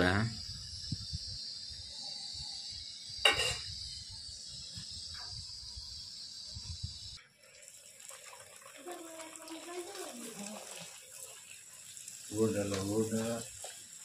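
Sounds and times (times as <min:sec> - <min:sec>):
frying in hot oil sizzle: 0:00.0 - 0:14.0.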